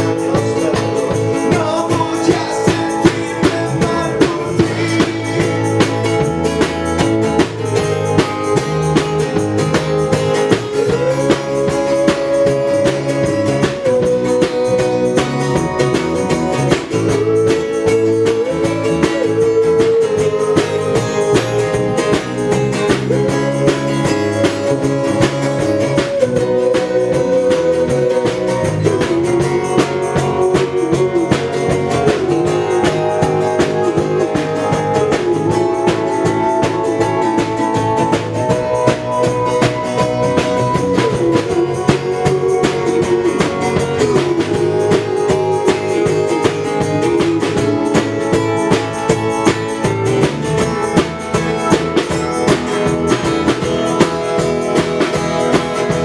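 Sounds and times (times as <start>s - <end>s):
bass guitar: 0.0s - 56.0s
drum beat: 0.0s - 56.0s
electric guitar: 0.0s - 56.0s
keyboards: 0.0s - 56.0s.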